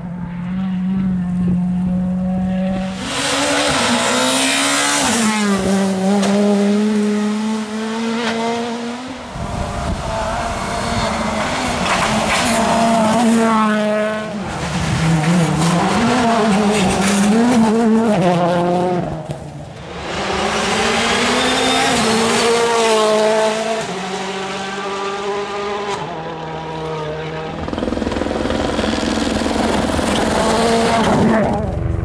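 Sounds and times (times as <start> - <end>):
rally car engines at full throttle: 0.0 - 32.0.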